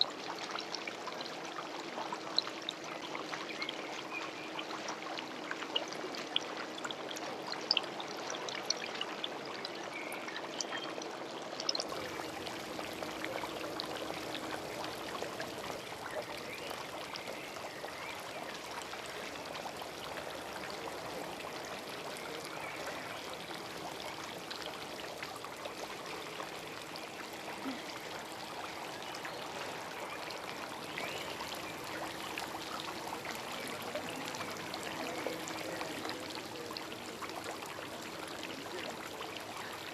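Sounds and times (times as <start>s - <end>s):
running water rushing: 0.0s - 39.9s
faint steady hum: 0.1s - 39.9s.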